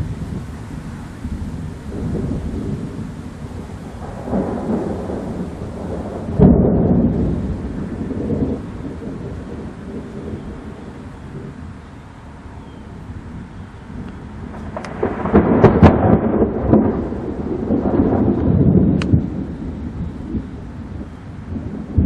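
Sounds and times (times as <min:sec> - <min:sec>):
thunder rumbling and cracking: 0:00.0 - 0:11.8, 0:12.8 - 0:22.0.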